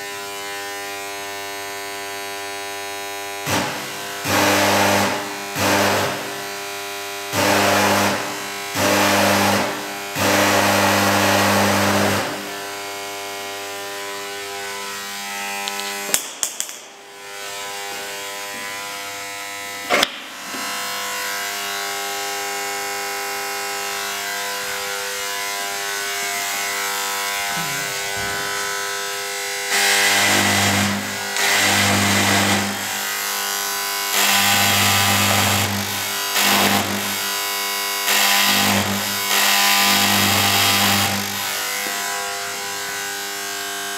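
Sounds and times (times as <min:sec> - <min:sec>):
electric arc buzzing: 0:00.2 - 0:21.9, 0:22.5 - 0:43.4.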